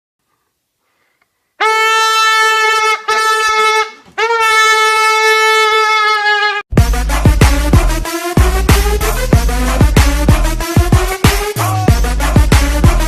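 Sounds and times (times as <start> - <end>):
horn blasts: 1.6 - 13.0.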